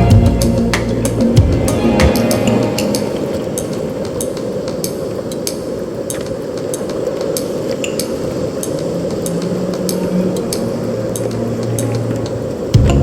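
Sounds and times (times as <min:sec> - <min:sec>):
light clicking percussion: 0:00.0 - 0:13.0
low rushing wash: 0:00.0 - 0:13.0.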